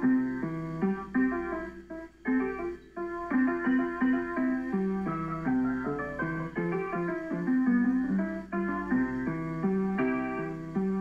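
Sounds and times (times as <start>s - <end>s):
child playing piano: 0.0s - 11.0s.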